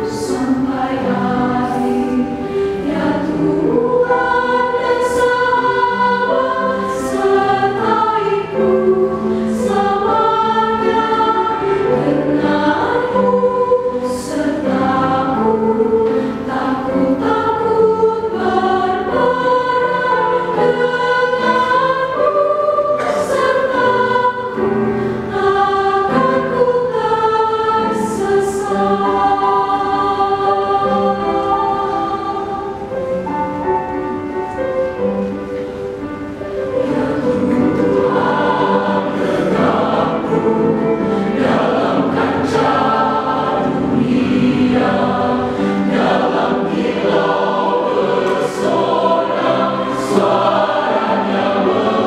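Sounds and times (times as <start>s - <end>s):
mixed choir singing a hymn: 0.0s - 52.0s.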